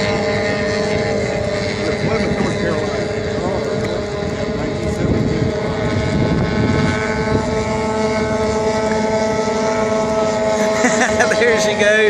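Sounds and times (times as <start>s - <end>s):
outboard boat engine running hard: 0.0s - 12.0s.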